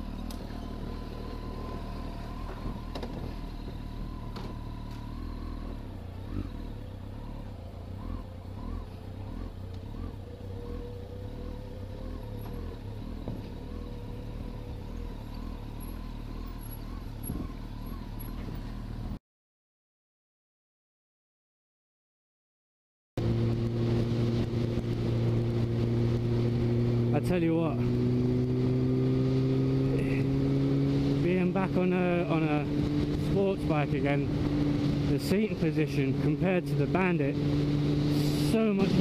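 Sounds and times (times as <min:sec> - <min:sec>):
motorcycle engine running: 0:00.0 - 0:19.2, 0:23.2 - 0:39.0.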